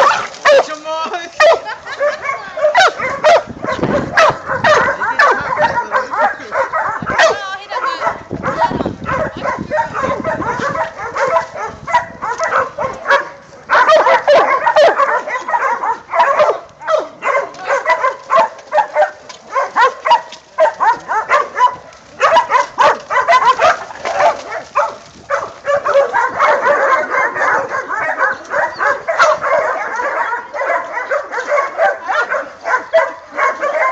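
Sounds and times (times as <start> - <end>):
pack of dogs barking: 0.0 - 33.9.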